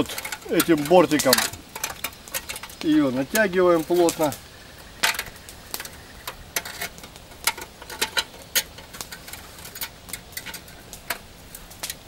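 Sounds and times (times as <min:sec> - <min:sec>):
wire scraping on metal barrel: 0:00.0 - 0:12.0.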